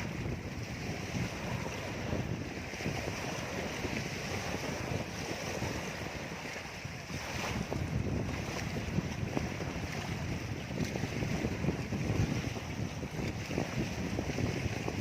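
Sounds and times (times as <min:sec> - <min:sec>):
choppy waves washing: 0:00.0 - 0:15.0
wind buffeting microphone: 0:00.0 - 0:15.0.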